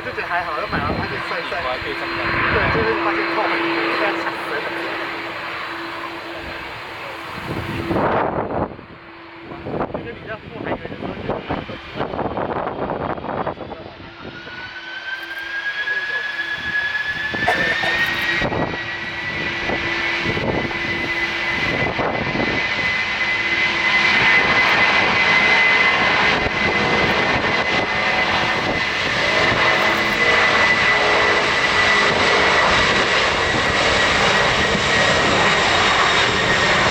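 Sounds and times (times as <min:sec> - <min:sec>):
jet engines roaring with whine: 0:00.0 - 0:36.9.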